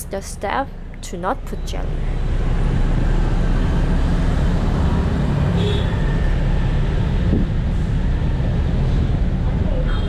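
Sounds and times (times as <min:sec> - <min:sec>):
motorbike engines passing: 0:00.8 - 0:10.0.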